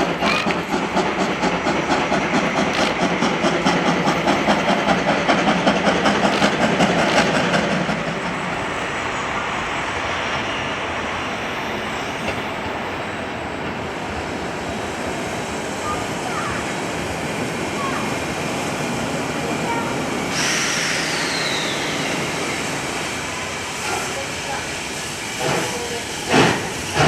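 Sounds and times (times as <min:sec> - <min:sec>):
steam locomotive exhaust beats: 0:00.0 - 0:27.0
train rushing noise: 0:00.0 - 0:27.0.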